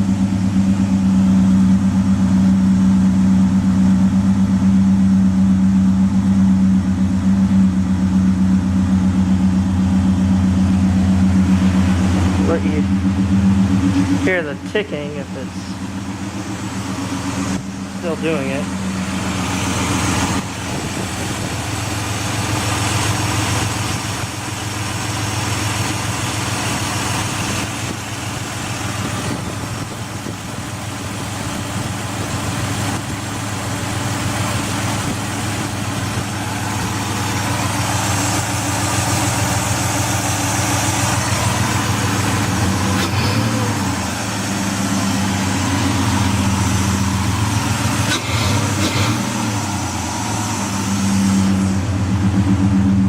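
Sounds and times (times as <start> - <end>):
car engine idling roughly: 0.0 - 53.0.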